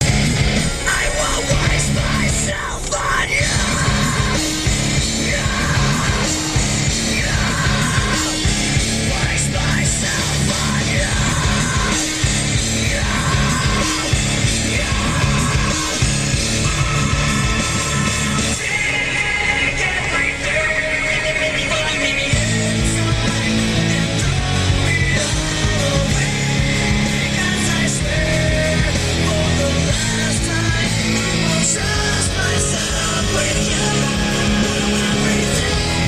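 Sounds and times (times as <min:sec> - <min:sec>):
heavy rock music: 0:00.0 - 0:36.0.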